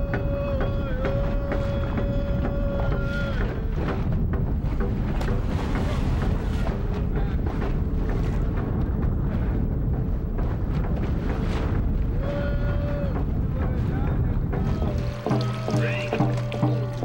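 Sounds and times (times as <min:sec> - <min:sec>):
boat motor humming: 0:00.0 - 0:17.0
wind buffeting microphone: 0:00.0 - 0:17.0.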